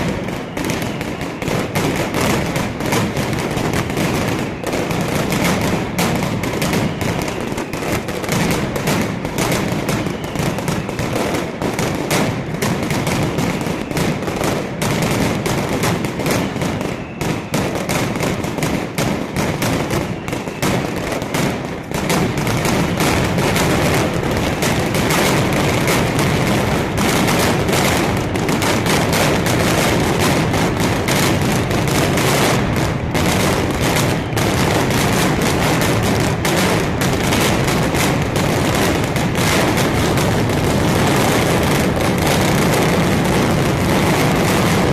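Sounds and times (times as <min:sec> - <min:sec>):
rapid firecracker bangs: 0:00.0 - 0:44.9.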